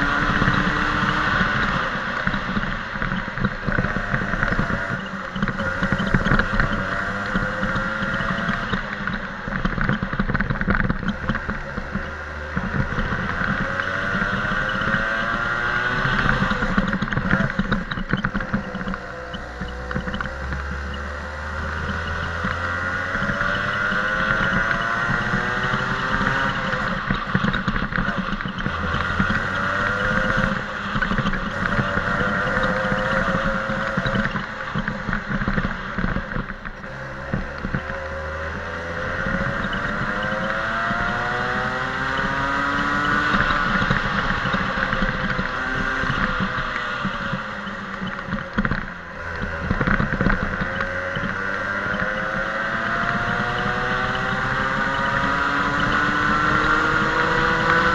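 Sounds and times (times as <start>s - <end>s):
go-kart engine revving: 0.0s - 57.9s.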